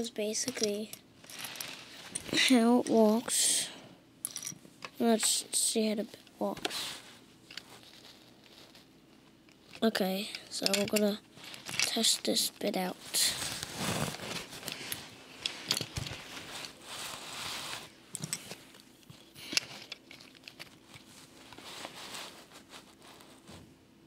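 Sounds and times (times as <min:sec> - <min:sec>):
handling rustling and swishing: 0:00.3 - 0:03.3, 0:04.3 - 0:23.8.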